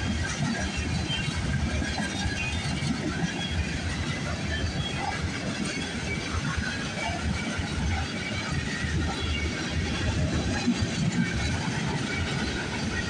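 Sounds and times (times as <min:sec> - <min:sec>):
freight train rolling on rails: 0:00.0 - 0:13.0.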